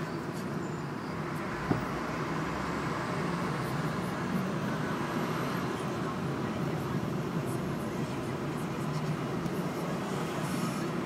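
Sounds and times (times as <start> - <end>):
traffic hum inside car: 0.0 - 11.0.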